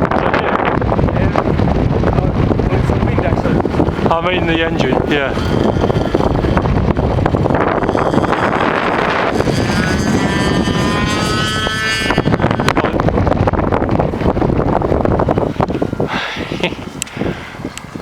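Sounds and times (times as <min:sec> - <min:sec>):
wind buffeting microphone: 0:00.0 - 0:18.0
model plane motor whining: 0:02.2 - 0:18.0.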